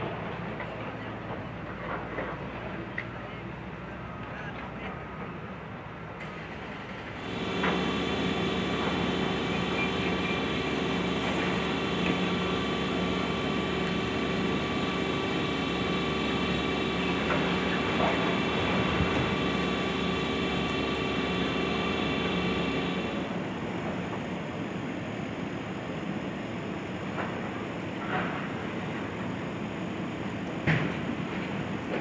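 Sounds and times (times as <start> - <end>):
excavator engine and hydraulics: 0.0 - 32.0.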